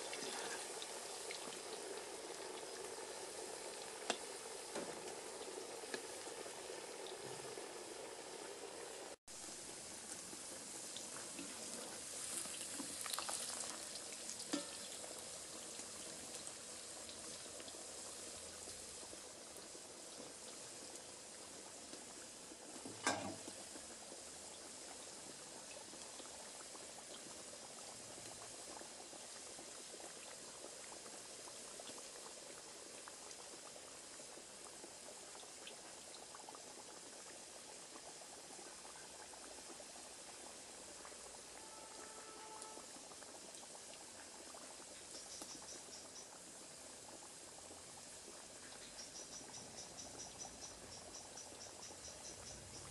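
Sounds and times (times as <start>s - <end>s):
food deep-frying in hot oil: 0.0s - 52.9s.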